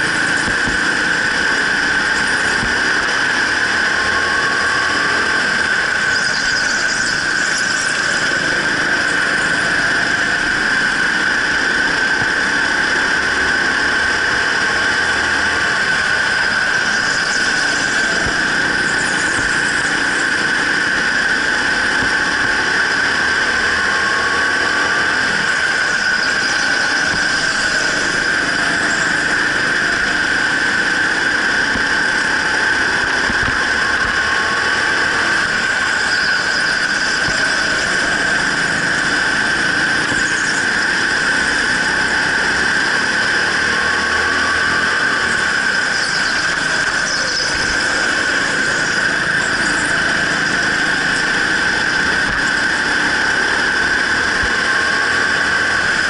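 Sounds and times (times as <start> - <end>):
go-kart engine whine: 0.0 - 56.0.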